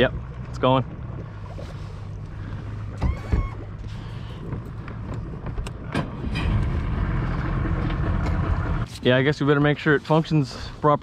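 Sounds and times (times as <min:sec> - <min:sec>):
electric trolling motor humming: 0:00.0 - 0:08.9.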